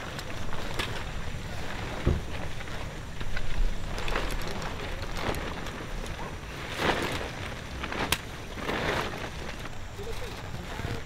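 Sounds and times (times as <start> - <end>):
camping gear rustling: 0.0 - 11.0
wind rumble on microphone: 0.0 - 11.0.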